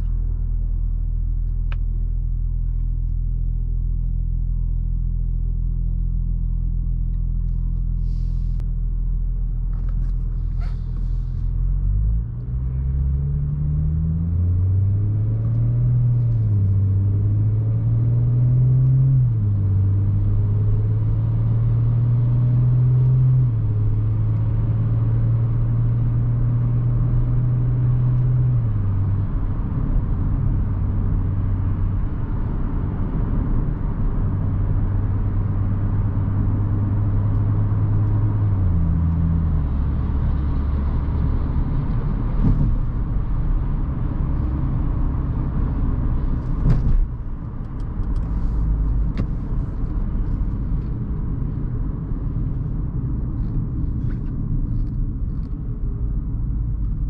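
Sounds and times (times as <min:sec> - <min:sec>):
car engine accelerating: 0:00.0 - 0:57.0
tyre and road noise: 0:09.4 - 0:57.0.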